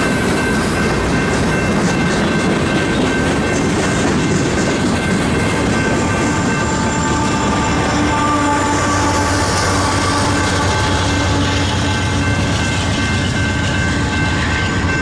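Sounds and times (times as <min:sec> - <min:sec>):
train wheels rolling on rail: 0:00.0 - 0:15.0.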